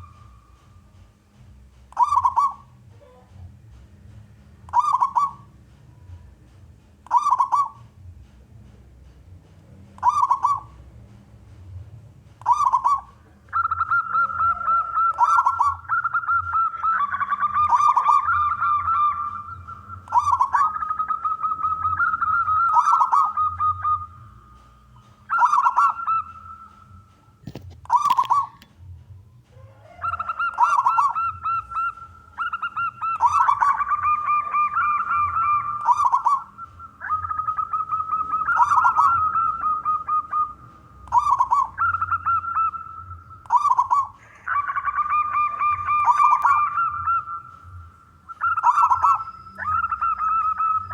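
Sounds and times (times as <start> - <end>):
dove cooing: 1.9 - 3.5, 4.7 - 6.3, 7.0 - 8.2, 10.0 - 10.9, 12.4 - 28.7, 29.4 - 50.9.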